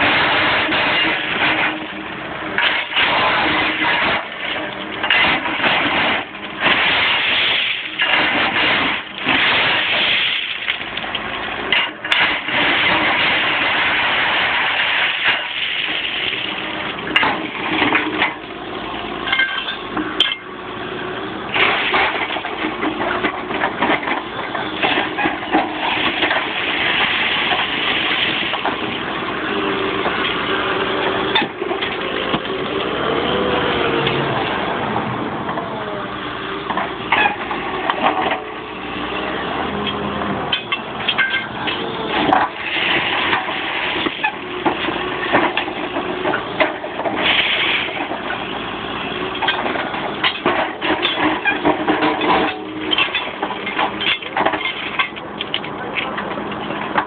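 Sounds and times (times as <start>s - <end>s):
steel clanks and scrapes: 0.0s - 18.5s, 19.2s - 20.6s, 21.5s - 29.1s, 36.7s - 38.6s, 39.8s - 57.0s
backhoe engine and hydraulics: 0.0s - 57.0s.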